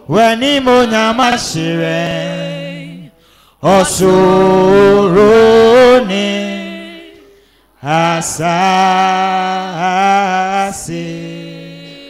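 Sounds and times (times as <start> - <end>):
man singing a chant: 0.0 - 7.1, 7.8 - 12.0.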